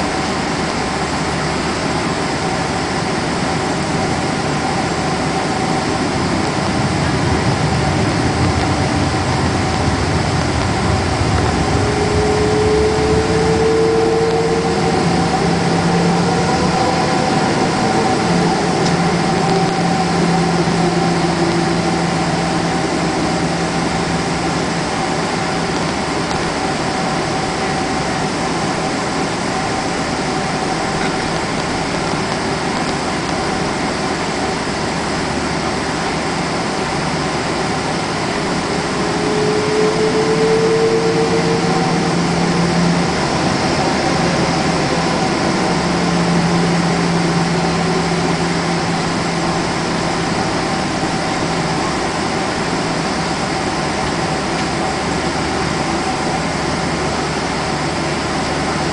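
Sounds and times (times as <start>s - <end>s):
brief rising whine: 0.0s - 58.9s
jet engine and airflow drone: 0.0s - 58.9s
steady hum: 0.0s - 58.9s.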